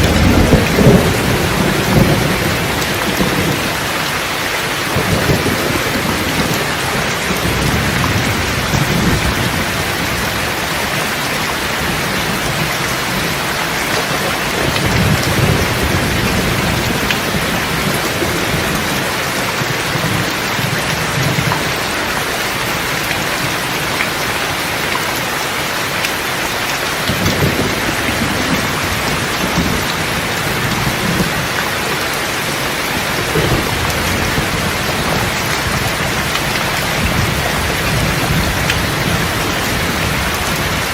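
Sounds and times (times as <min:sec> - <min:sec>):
rain hissing: 0:00.0 - 0:40.9
thunder rumbling: 0:00.0 - 0:40.9.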